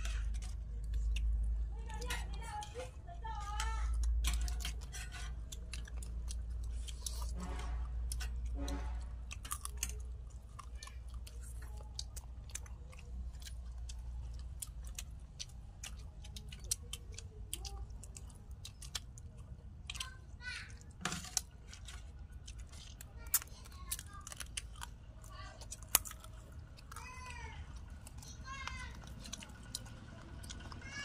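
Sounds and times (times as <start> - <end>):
chewing and biting chicken: 0.0 - 31.0.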